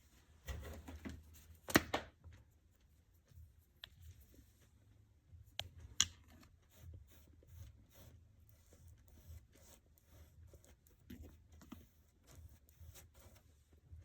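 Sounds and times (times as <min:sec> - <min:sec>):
faint handling and rustling: 0:00.0 - 0:14.0.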